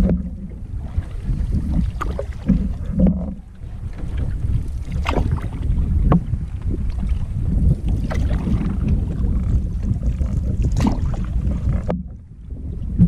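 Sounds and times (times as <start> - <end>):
paddle splashes: 0.0 - 12.2
choppy river water: 0.0 - 13.0
waves slapping hull: 0.0 - 13.0
wind buffeting microphone: 0.0 - 13.0.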